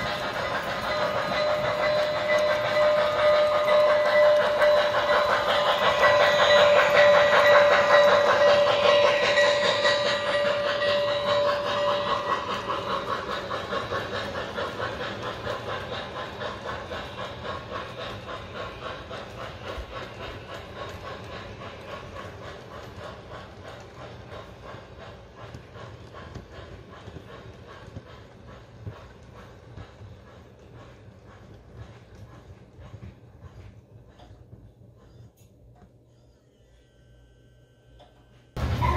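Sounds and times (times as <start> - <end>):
model train wheels clicking: 0.0 - 36.0.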